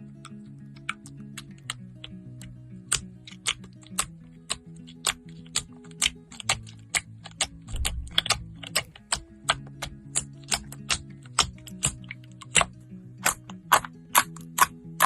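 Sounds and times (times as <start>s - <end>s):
calm background music: 0.0s - 15.0s
slime clicking pops: 2.9s - 15.0s.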